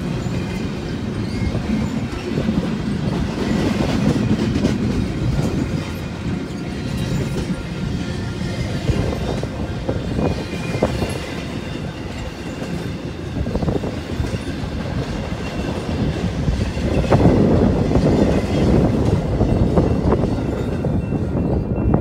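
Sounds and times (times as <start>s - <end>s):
wheels clacking over rails: 0.0s - 21.3s
freight train rumbling past: 0.0s - 22.0s.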